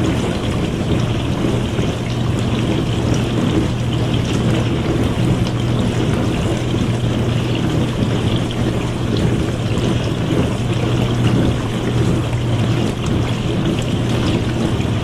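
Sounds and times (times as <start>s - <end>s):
dishwasher pump hum: 0.0s - 15.0s
water spraying in dishwasher: 0.0s - 15.0s.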